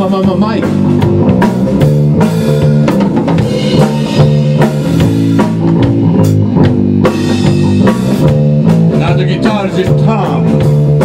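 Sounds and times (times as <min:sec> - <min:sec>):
drum kit beat: 0:00.0 - 0:11.0
electric bass line: 0:00.0 - 0:11.0
electric guitar: 0:00.0 - 0:11.0.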